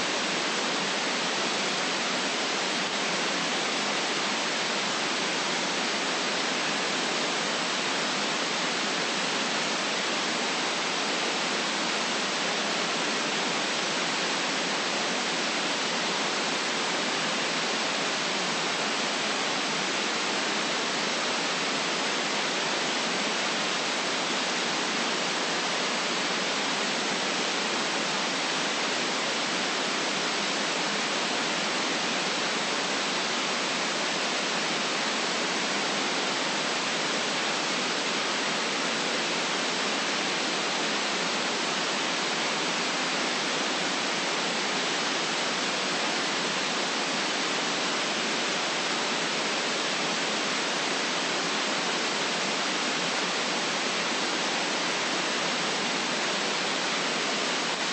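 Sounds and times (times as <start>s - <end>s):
white noise hiss: 0.0s - 57.9s.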